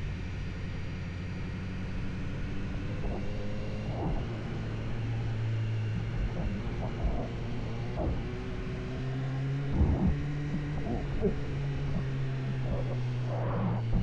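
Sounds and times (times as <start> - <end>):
car engine running: 1.2 - 14.0.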